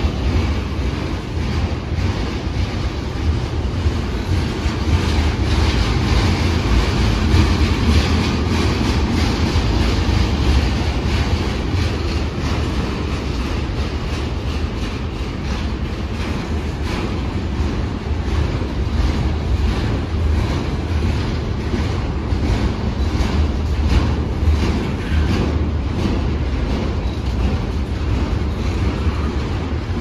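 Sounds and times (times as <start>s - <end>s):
freight train rumbling: 0.0s - 30.0s
steel wheels clacking on rails: 0.0s - 30.0s.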